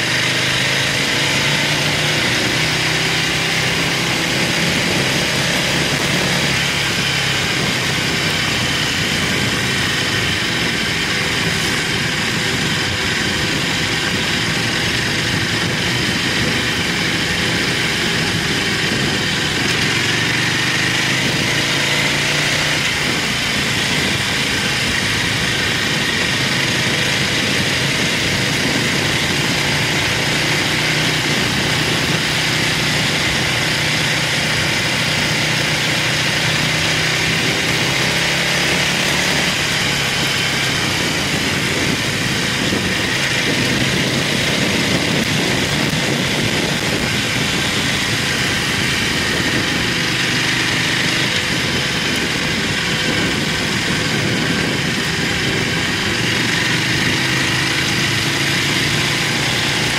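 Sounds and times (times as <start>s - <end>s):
motorcycle engine running: 0.0s - 59.9s
rushing wind and road noise: 0.0s - 59.9s.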